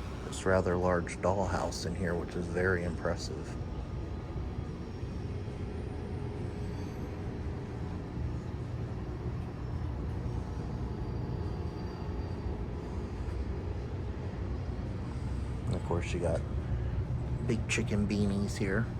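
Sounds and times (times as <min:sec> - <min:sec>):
train rumbling past: 0:00.0 - 0:18.9.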